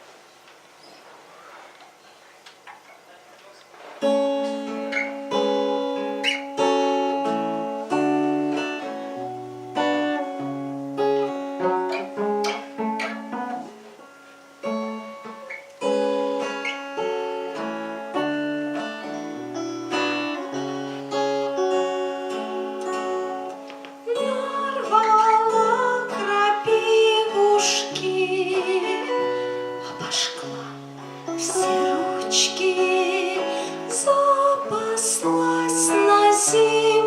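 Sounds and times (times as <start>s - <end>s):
acoustic guitar playing: 3.8s - 37.0s.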